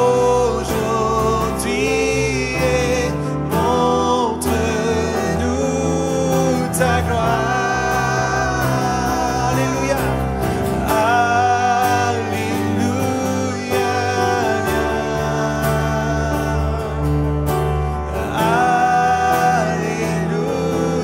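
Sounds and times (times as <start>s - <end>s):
acoustic guitar: 0.0s - 21.0s
man singing long held notes: 0.0s - 21.0s.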